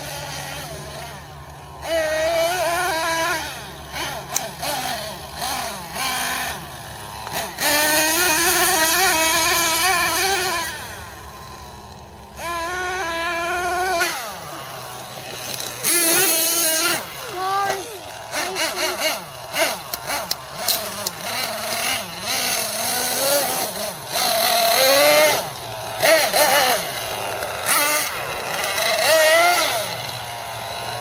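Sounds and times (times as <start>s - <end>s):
small nitro engine revving: 0.0s - 31.0s.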